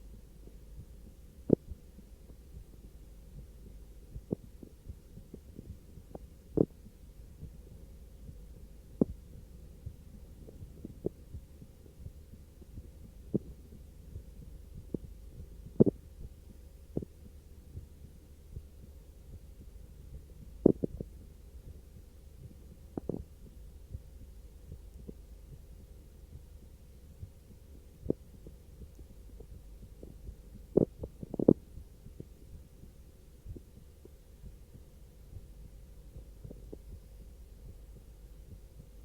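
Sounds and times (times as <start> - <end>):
human heartbeat: 0.0 - 39.0
steady low hum: 0.0 - 39.0.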